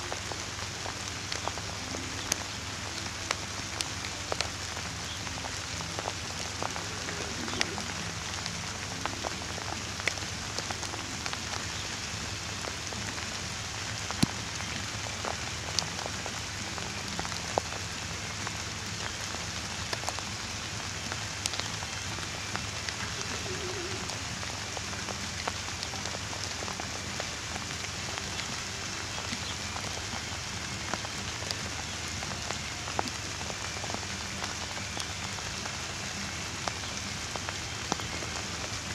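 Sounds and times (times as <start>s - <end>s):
raindrops ticking: 0.0s - 38.9s
steady rain hiss: 0.0s - 38.9s.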